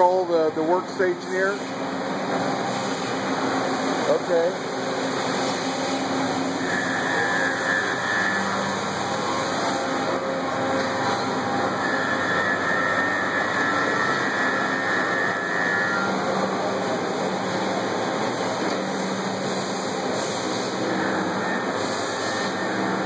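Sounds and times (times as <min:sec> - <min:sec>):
machine noise hiss: 0:00.0 - 0:23.0
faint high whine: 0:04.0 - 0:23.0.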